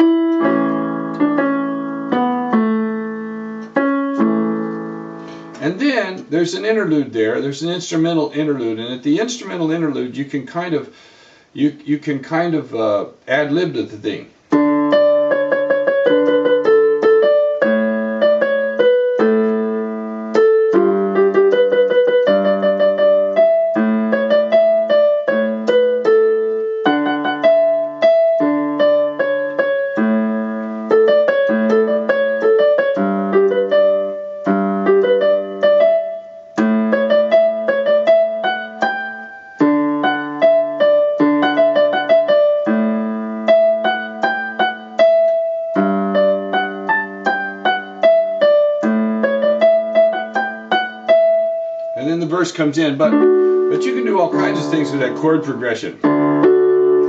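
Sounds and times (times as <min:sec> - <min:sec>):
piano chords with melody: 0:00.0 - 0:08.8, 0:14.3 - 0:57.0.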